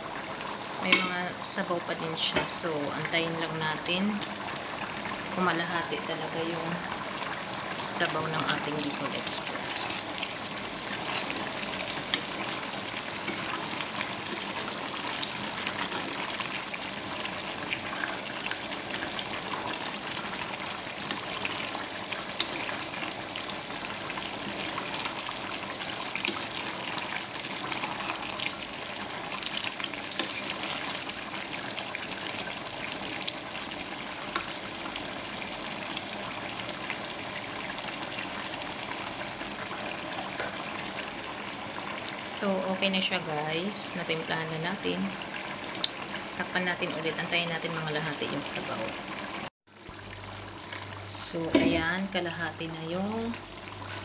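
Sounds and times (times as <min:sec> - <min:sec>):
sauce bubbling in a pan: 0:00.0 - 0:54.0.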